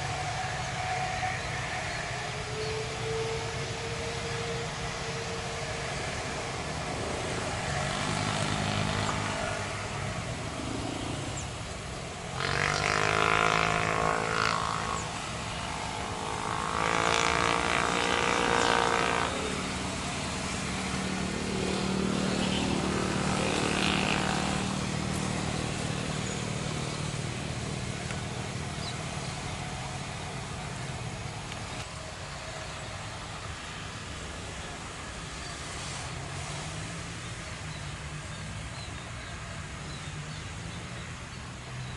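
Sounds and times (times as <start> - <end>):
passing vehicle engines: 0.0 - 41.9.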